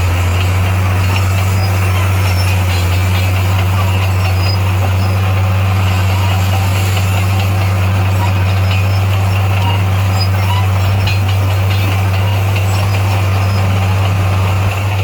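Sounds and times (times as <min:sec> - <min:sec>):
bulldozer diesel engine droning: 0:00.0 - 0:15.0.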